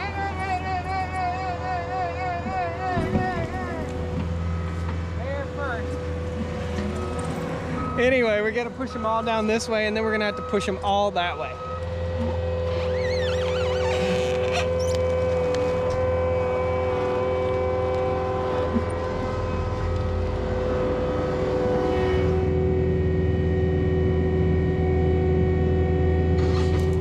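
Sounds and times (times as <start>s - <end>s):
diesel engine under load: 0.0s - 27.0s
high hydraulic whine: 0.0s - 27.0s.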